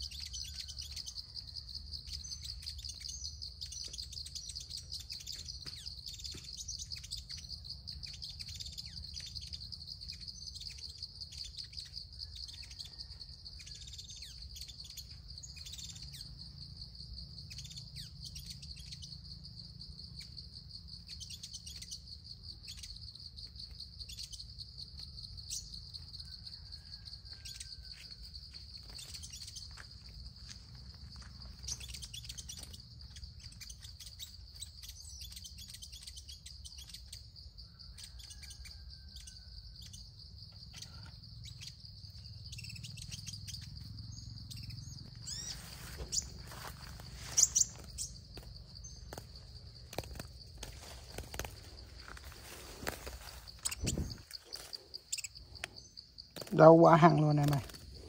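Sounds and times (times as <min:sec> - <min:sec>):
cricket trilling: 0:00.0 - 0:58.0
small birds chirping: 0:00.0 - 0:58.0.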